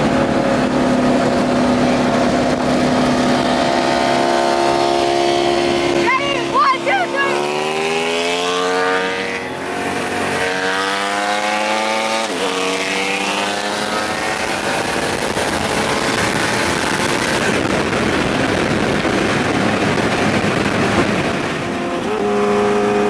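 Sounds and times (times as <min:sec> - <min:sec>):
car and motorcycle accelerating: 0:00.0 - 0:23.0
wind noise at high speed: 0:00.0 - 0:23.0.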